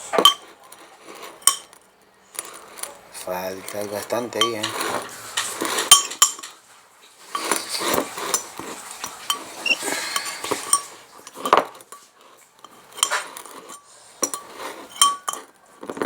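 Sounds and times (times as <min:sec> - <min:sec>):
cutlery clinking on plates: 0:00.0 - 0:16.0.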